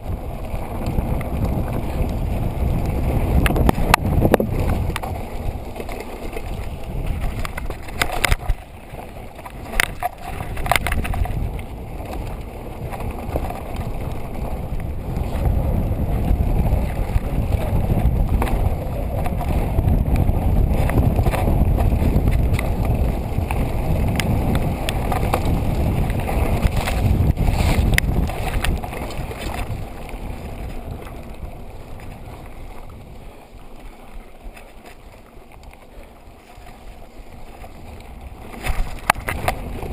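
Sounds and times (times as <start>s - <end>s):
bike rattles and knocks: 0.0s - 39.9s
tyres rumbling on gravel: 0.0s - 39.9s
wind buffeting microphone: 0.0s - 39.9s.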